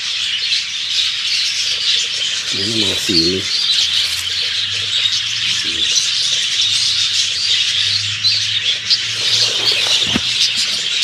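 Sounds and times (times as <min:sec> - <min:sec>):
birds chirping and chattering: 0:00.0 - 0:11.0.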